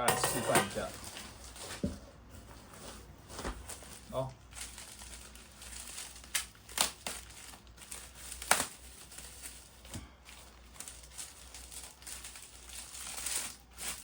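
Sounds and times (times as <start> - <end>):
packaging crinkling and rustling: 0.7 - 14.0.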